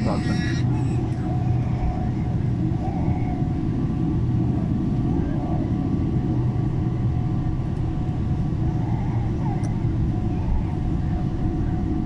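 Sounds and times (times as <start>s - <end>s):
aircraft cabin low rumble: 0.0s - 12.0s
faint steady hum: 0.0s - 12.0s.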